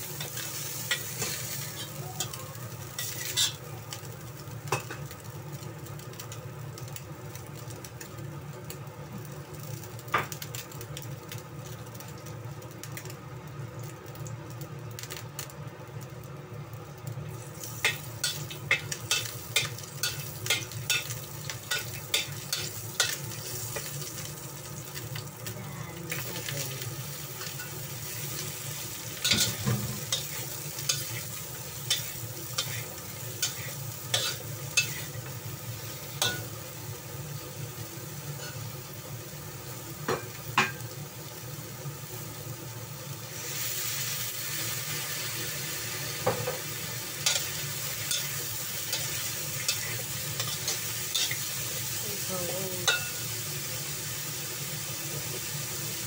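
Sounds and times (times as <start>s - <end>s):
oil sizzling in a wok: 0.0s - 56.0s.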